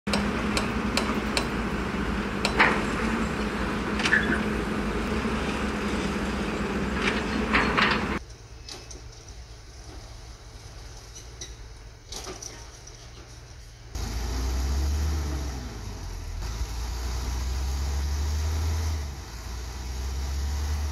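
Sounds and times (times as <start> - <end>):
diesel truck engine running: 0.1 - 11.1, 13.0 - 20.9.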